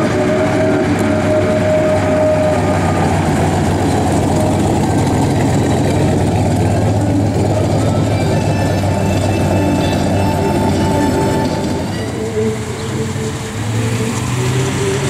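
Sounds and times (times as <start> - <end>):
pickup truck engine rumbling: 0.0 - 15.0.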